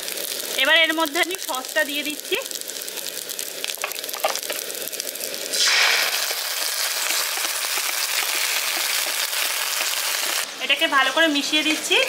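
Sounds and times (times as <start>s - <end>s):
loud steady sizzle: 0.0s - 12.0s
vegetables frying in oil: 0.0s - 12.0s.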